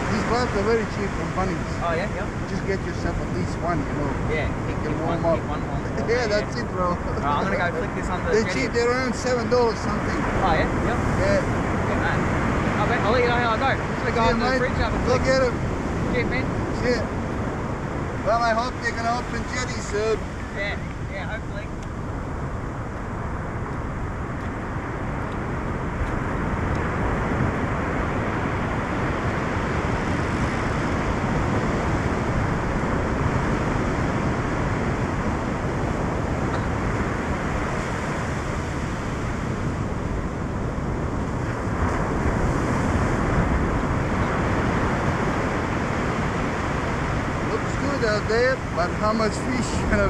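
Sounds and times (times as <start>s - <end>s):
surf breaking on beach: 0.0s - 21.1s, 22.3s - 50.0s
wind on microphone: 0.0s - 50.0s.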